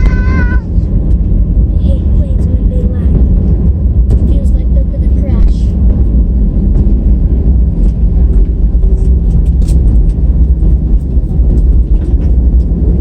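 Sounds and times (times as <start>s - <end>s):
engine and wheel rumble: 0.0s - 13.0s
light rattles and knocks: 2.4s - 13.0s.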